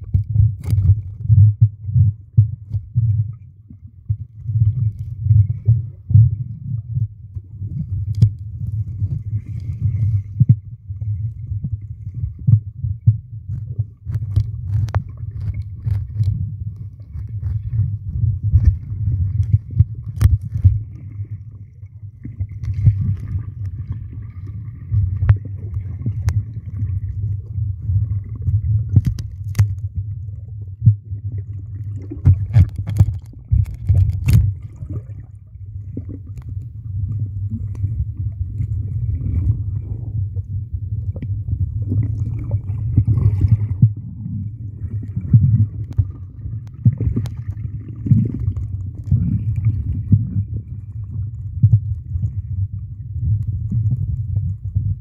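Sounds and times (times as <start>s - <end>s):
underwater bubbling: 0.0s - 55.0s
underwater low rumble: 0.0s - 55.0s.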